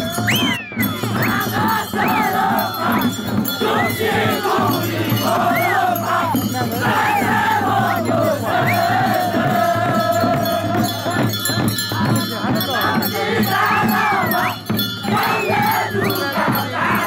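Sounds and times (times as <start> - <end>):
crowd singing and shouting: 0.0 - 17.0
drum beats: 0.0 - 17.0
jingling bells: 0.0 - 17.0.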